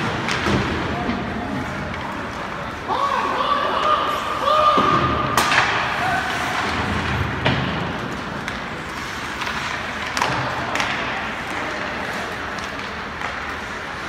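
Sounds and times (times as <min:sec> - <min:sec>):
hockey sticks clacking: 0:00.0 - 0:03.2, 0:03.8 - 0:14.0.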